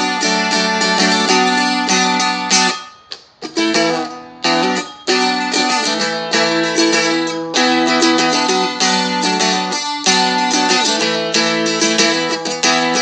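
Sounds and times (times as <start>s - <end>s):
small string instrument strummed: 0.0s - 13.0s.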